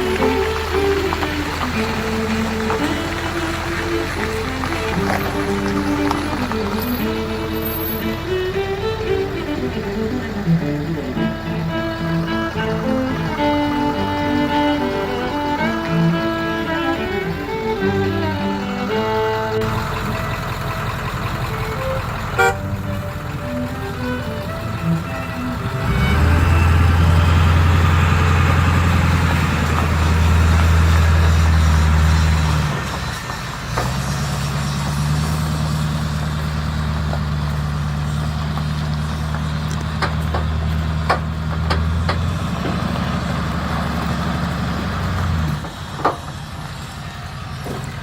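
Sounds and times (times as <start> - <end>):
heavy vehicle engine running: 0.0 - 48.0.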